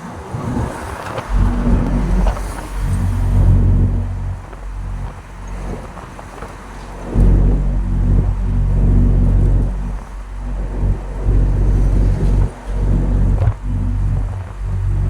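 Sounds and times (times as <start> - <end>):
truck engine droning: 0.3 - 15.0.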